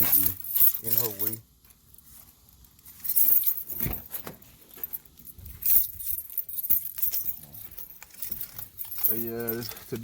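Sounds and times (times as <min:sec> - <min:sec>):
keys jangling: 0:00.0 - 0:01.4, 0:02.8 - 0:10.0.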